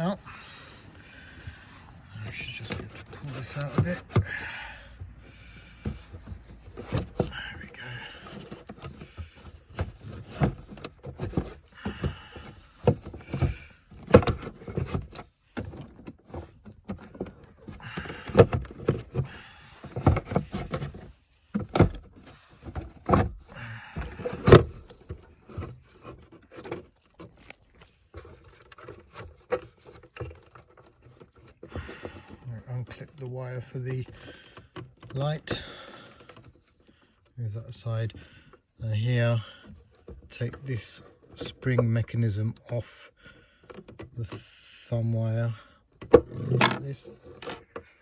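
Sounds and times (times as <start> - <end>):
plastic scraping: 0.0 - 45.4, 46.0 - 48.0.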